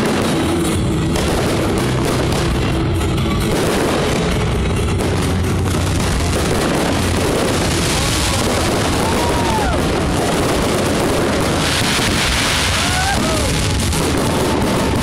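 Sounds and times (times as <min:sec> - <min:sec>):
crowd noise: 0:00.0 - 0:15.0
firework whistles: 0:00.0 - 0:15.0
fireworks crackling: 0:00.0 - 0:15.0.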